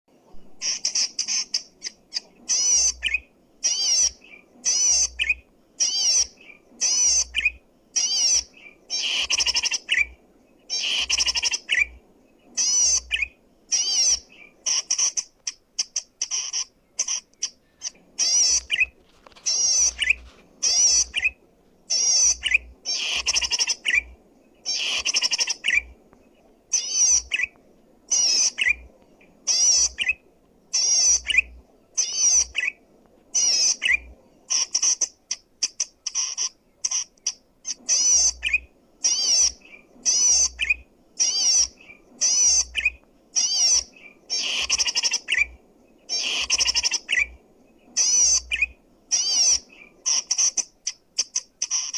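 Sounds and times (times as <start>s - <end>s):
bird trilling song: 0.2s - 51.9s.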